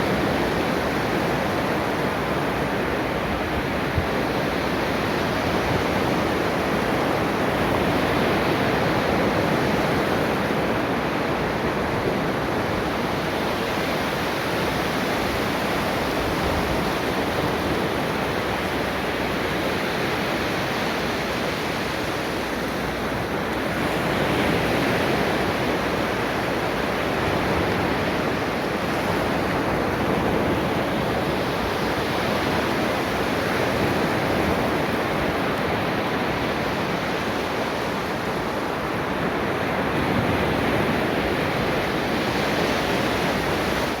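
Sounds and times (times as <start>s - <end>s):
ocean waves washing on beach: 0.0s - 44.0s.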